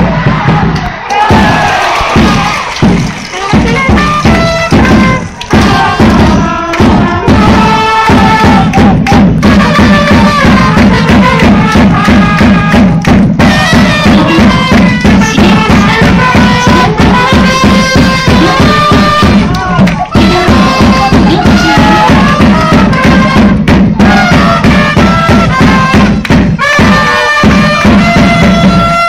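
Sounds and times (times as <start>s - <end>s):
fans clapping in time: 0.0s - 29.0s
steady drum beat: 0.0s - 29.0s
trumpet playing cheering song: 0.0s - 29.0s.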